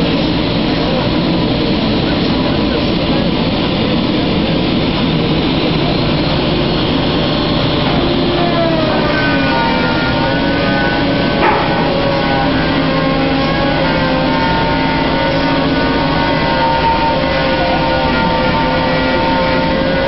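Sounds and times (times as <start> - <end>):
industrial saw machinery running: 0.0 - 20.0.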